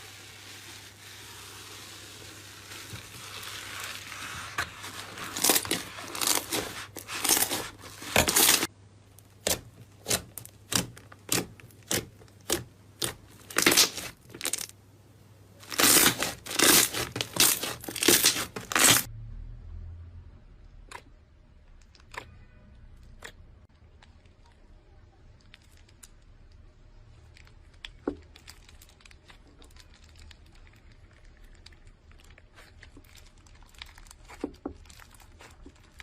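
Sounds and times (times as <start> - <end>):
slime squelching by hand: 0.0 - 14.8, 15.6 - 19.1, 20.8 - 36.0.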